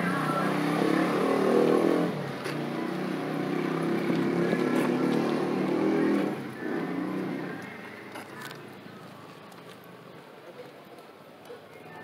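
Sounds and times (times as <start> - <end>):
vehicle engine running: 0.0 - 10.4.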